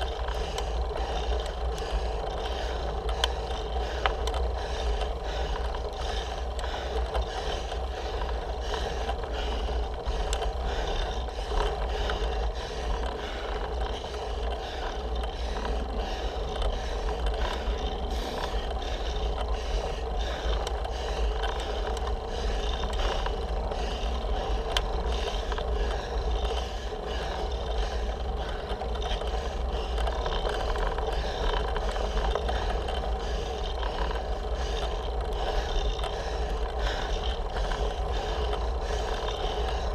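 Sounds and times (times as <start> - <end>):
bicycle tyre road noise: 0.0 - 39.9.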